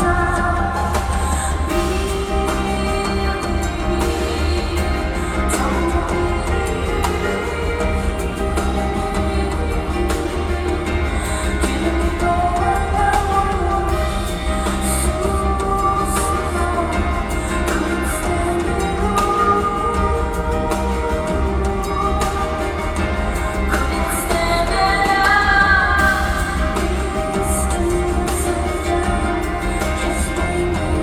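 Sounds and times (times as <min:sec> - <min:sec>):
live pop rock band: 0:00.0 - 0:31.0.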